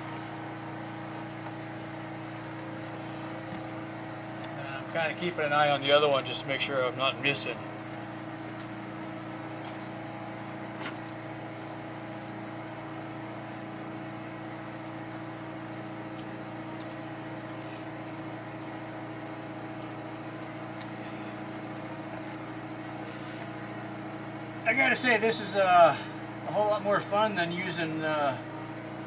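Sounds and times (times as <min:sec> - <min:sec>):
electric pump humming: 0:00.0 - 0:29.0.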